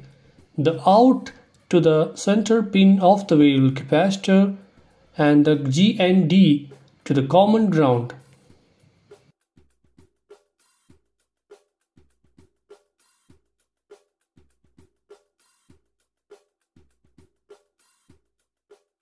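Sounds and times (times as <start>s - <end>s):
background music with drum beat: 0.0s - 19.0s.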